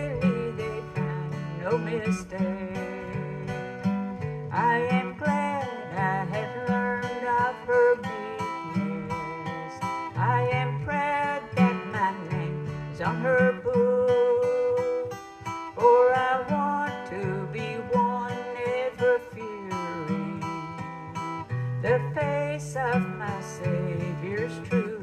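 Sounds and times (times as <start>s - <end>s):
acoustic guitar sliding melody: 0.0s - 25.0s
strummed guitar chords: 0.0s - 25.0s.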